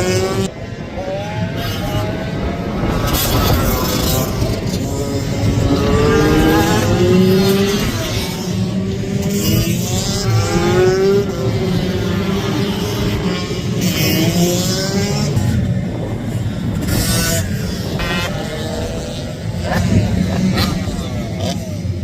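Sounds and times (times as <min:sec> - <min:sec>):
minibike engines revving: 0:00.0 - 0:22.0.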